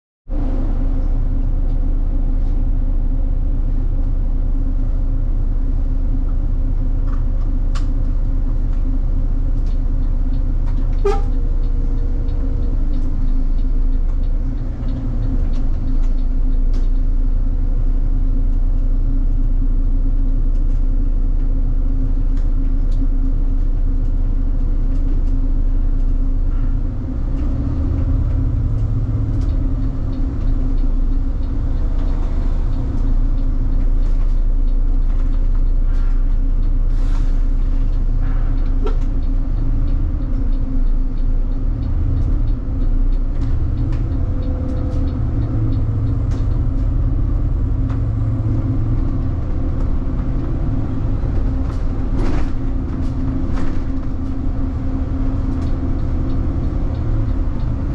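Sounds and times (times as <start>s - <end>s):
bus engine droning: 0.3s - 57.9s.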